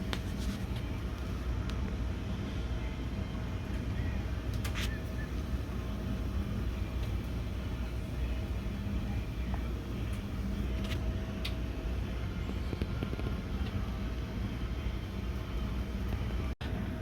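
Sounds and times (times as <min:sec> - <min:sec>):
printer mechanical hum: 0:00.0 - 0:17.0.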